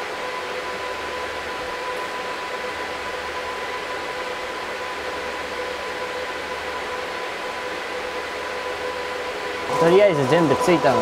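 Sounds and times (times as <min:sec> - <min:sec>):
cooling fans rushing air: 0:00.0 - 0:11.0
fan whine: 0:00.0 - 0:11.0.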